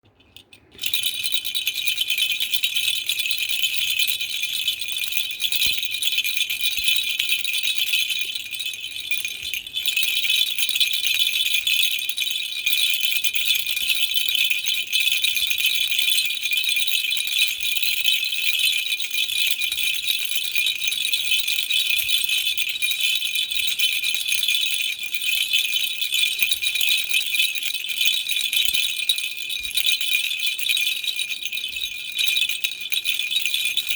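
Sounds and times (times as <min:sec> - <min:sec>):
baby rattle shaken: 0:00.3 - 0:33.9.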